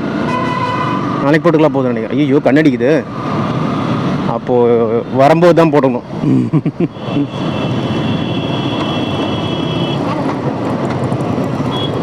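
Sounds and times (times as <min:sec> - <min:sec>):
road rumble: 0:00.0 - 0:12.0.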